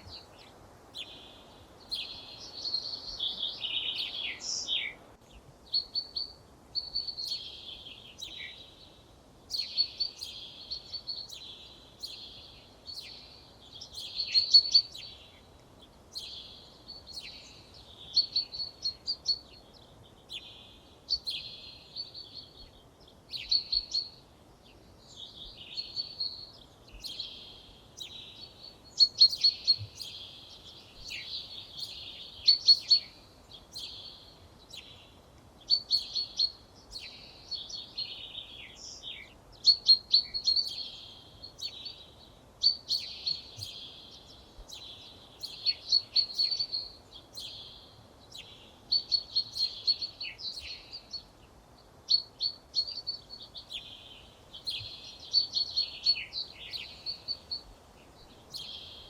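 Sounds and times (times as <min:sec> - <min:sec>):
faint background hiss: 0:00.0 - 0:59.0
songbird chirps and trills: 0:00.0 - 0:59.0.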